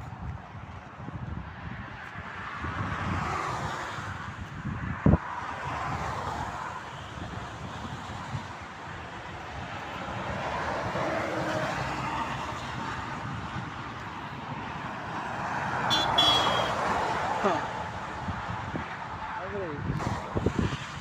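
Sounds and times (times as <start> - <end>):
motorway traffic passing: 0.0 - 21.0.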